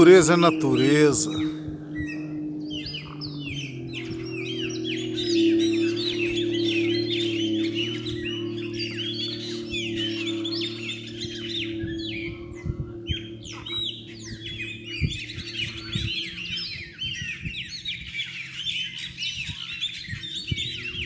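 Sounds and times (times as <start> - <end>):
low hum: 0.0 - 21.0
songbirds and parakeets chirping: 0.0 - 21.0.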